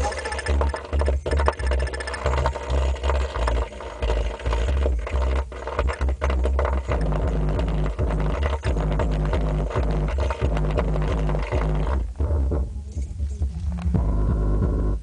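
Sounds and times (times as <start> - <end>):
loud music with pulsing bass: 0.0 - 15.0
rattly buzzing: 0.0 - 15.0.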